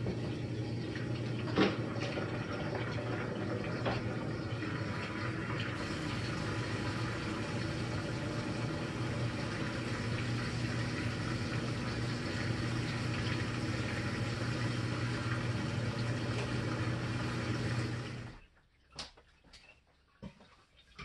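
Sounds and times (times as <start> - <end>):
washing machine running: 0.0 - 19.6.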